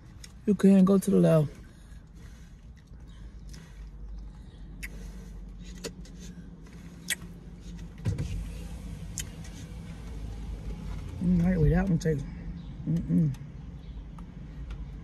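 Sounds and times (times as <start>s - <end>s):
vehicle engine idling hum: 0.0s - 15.0s.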